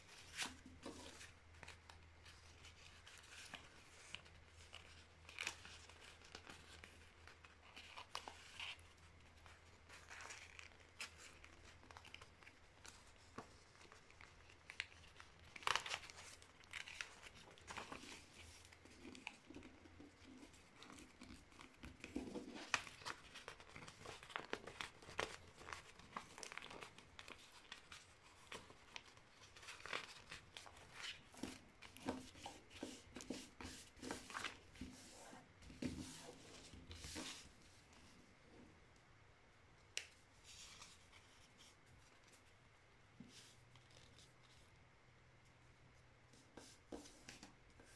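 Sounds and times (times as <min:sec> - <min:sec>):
paper folding and creasing: 0:00.0 - 0:38.1, 0:40.0 - 0:42.6, 0:43.2 - 0:44.8.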